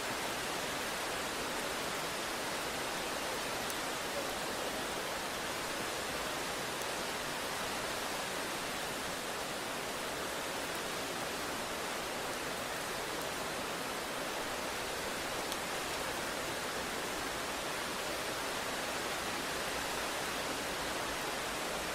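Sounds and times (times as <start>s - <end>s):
rain falling: 0.0s - 21.9s.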